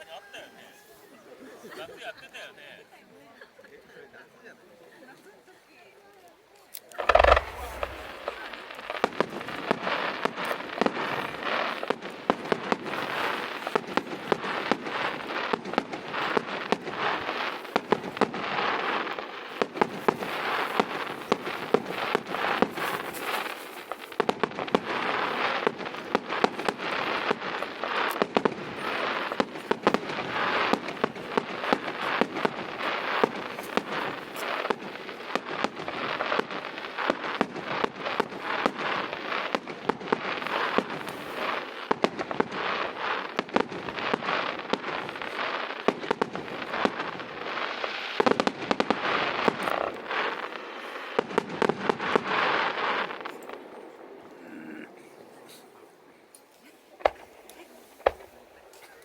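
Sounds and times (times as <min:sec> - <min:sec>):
fireworks crackling: 0:06.6 - 0:59.0
loud firework bangs: 0:07.0 - 0:54.2, 0:57.0 - 0:58.3.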